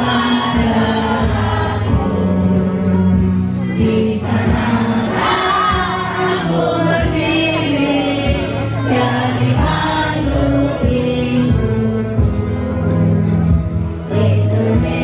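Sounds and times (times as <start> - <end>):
amplified backing music: 0.0 - 15.0
crowd singing along: 0.0 - 15.0
woman singing into microphone: 0.0 - 15.0.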